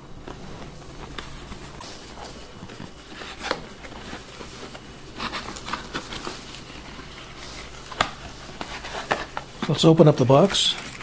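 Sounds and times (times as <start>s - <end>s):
cardboard taps scrapes and rustles: 0.3s - 11.0s.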